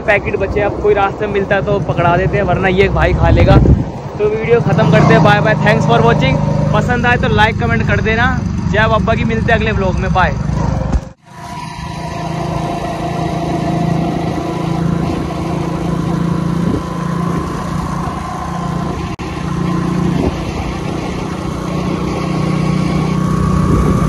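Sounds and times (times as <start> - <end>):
road noise: 0.0 - 24.0
small motorbike engine running: 4.4 - 24.0.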